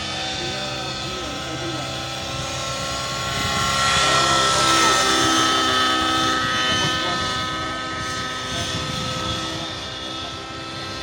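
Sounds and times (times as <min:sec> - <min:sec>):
model helicopter whine: 0:00.0 - 0:11.0.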